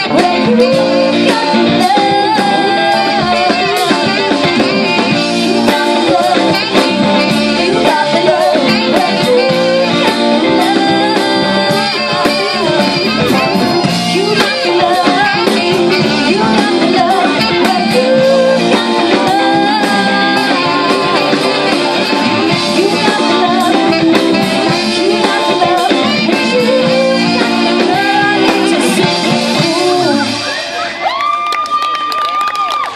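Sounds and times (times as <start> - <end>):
woman singing: 0.0 - 30.6
live band playing: 0.0 - 32.9.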